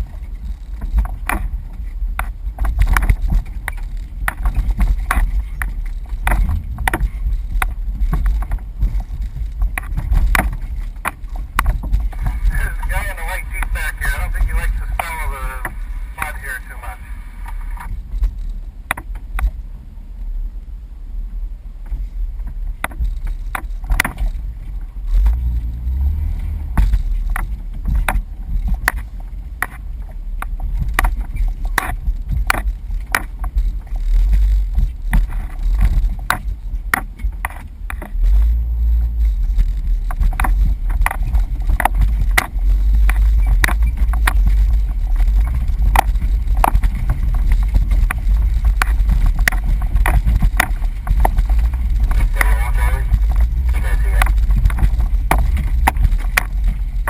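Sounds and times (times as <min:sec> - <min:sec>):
sharp clunks and rattles: 0:00.0 - 0:16.6, 0:21.8 - 0:57.0
low engine rumble: 0:00.0 - 0:57.0.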